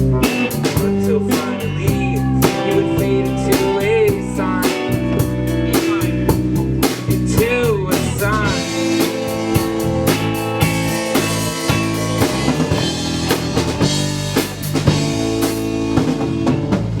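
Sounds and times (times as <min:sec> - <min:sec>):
sliding bending lead guitar notes: 0:00.0 - 0:16.8
bass guitar: 0:00.0 - 0:17.0
drum kit beat: 0:00.0 - 0:17.0
guitar: 0:00.0 - 0:17.0.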